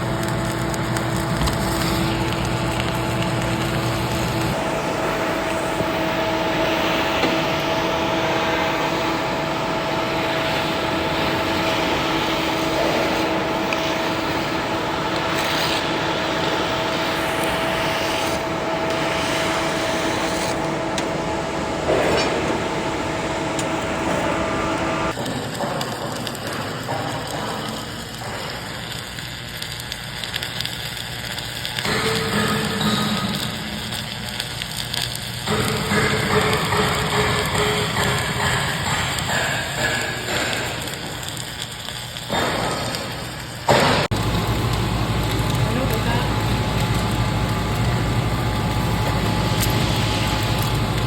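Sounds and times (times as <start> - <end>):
rough machine noise: 0.0 - 29.0, 31.6 - 51.0
machine humming: 0.0 - 51.0.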